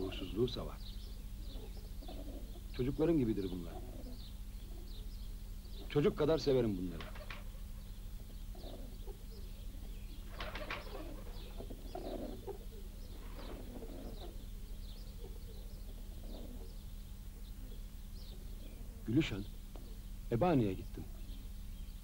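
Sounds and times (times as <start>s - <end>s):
pigeons cooing: 0.0s - 22.0s
small birds chirping: 0.0s - 22.0s
steady low hum: 0.0s - 22.0s.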